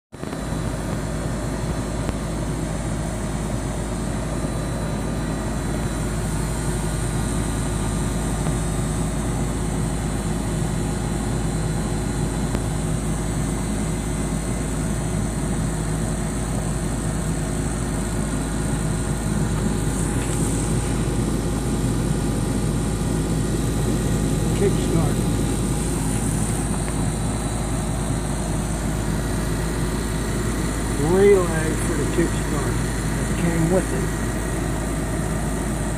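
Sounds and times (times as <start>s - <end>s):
air conditioner unit humming: 0.2s - 35.9s.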